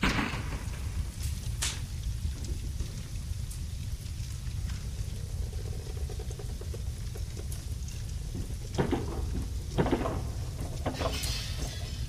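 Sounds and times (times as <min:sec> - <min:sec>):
fire crackling: 0:00.0 - 0:12.0
low roar of flames: 0:00.0 - 0:12.0.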